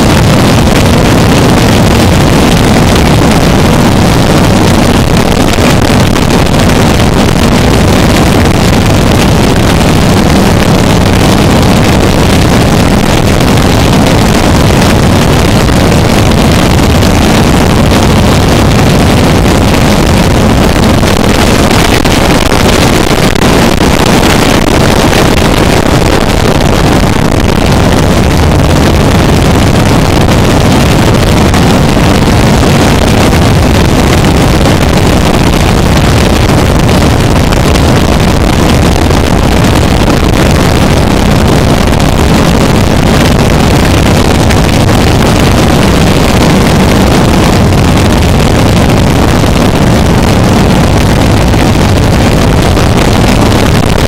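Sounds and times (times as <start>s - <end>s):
harsh distorted noise music: 0.0s - 54.0s.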